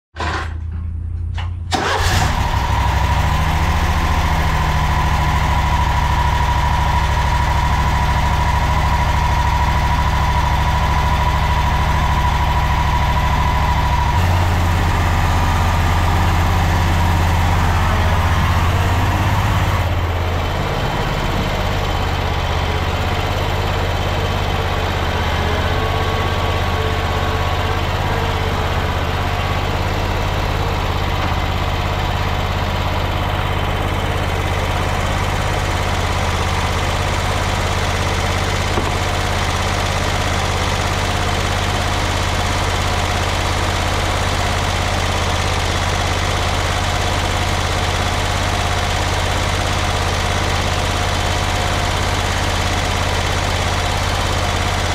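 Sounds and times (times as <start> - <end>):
mower engine running: 1.7 - 54.9.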